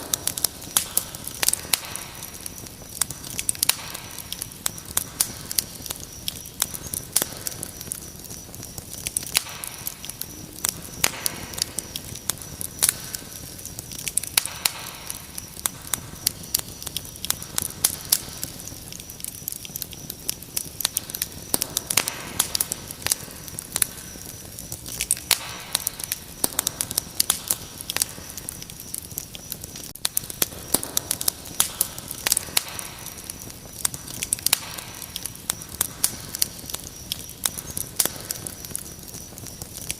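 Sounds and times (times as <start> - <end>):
wood fire crackling: 0.0 - 39.9
cricket trill: 0.2 - 39.9.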